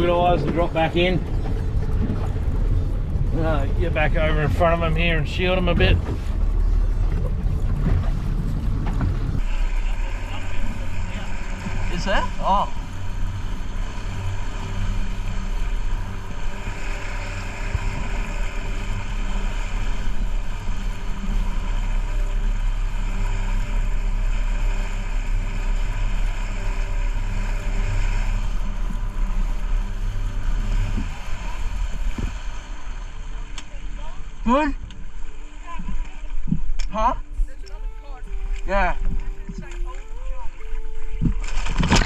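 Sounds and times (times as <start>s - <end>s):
motorboat engine running: 0.0s - 42.0s
water rushing past hull: 0.0s - 42.0s.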